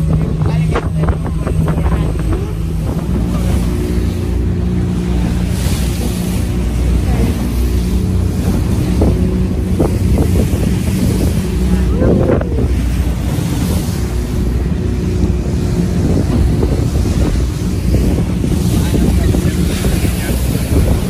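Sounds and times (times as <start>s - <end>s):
outboard motor running: 0.0s - 21.0s
sea rushing past hull: 0.0s - 21.0s
wind buffeting microphone: 0.0s - 21.0s.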